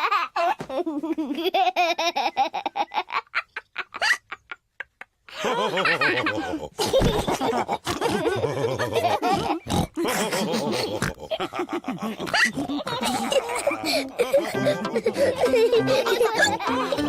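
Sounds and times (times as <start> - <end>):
cartoon characters laughing: 0.0 - 17.0.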